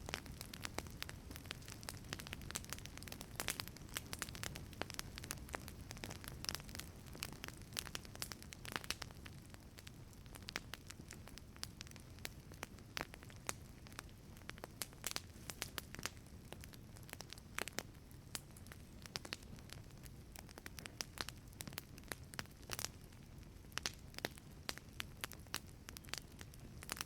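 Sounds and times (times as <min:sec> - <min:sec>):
burning wood crackling: 0:00.0 - 0:27.0
flames rumbling: 0:00.0 - 0:27.0.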